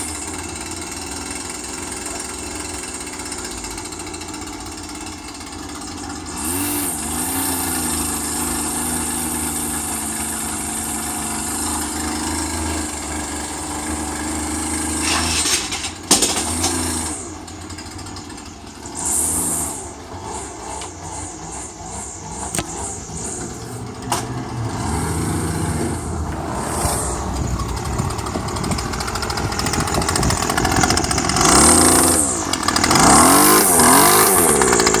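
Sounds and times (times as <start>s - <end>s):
small engine revving: 0.0s - 35.0s.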